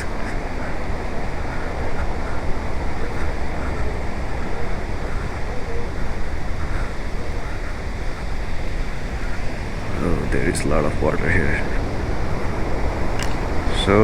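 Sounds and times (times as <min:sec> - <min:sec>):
waterfall pouring and rushing: 0:00.0 - 0:14.0.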